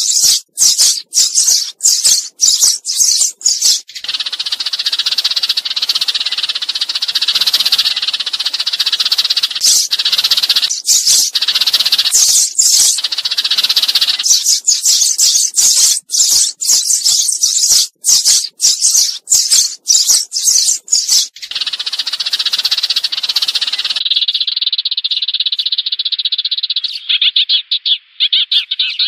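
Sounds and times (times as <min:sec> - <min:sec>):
sparrows chirping: 0:00.0 - 0:29.0.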